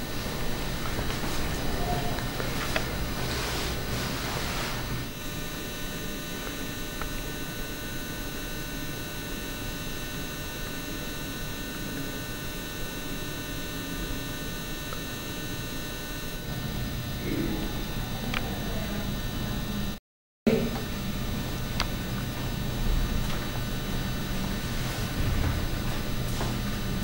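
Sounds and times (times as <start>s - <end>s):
electrical hum: 0.0s - 27.0s
thin high whine: 0.0s - 27.0s.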